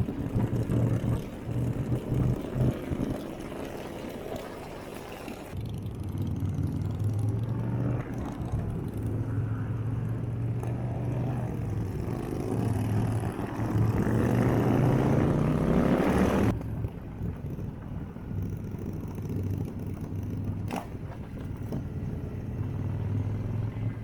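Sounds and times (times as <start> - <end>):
motorcycle engine revving: 0.0 - 4.2, 5.5 - 24.0.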